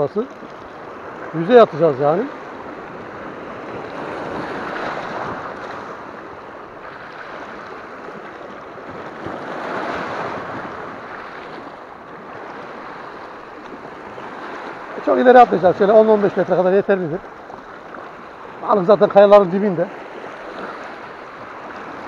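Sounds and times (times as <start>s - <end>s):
waves washing over rocks: 0.0s - 22.0s.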